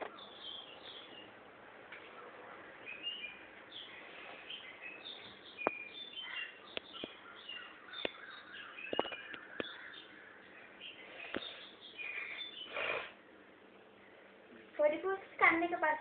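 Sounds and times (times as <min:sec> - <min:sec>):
birds chirping and squeaking: 0:00.0 - 0:01.4, 0:02.1 - 0:14.3.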